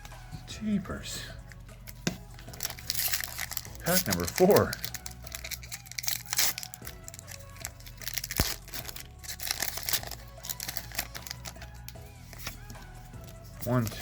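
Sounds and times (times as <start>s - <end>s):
background music: 0.0s - 14.0s
foil pack crinkling and tearing: 1.5s - 14.0s.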